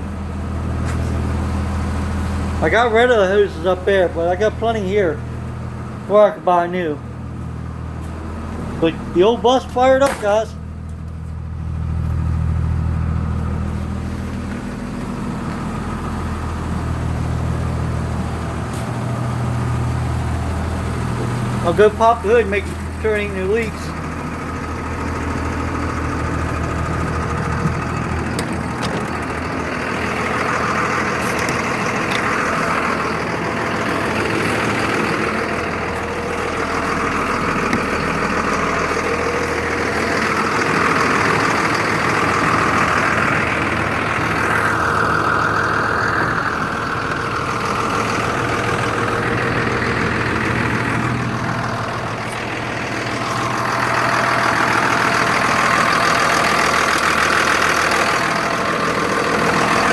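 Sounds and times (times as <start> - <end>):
diesel bus engine idling: 0.0 - 59.9.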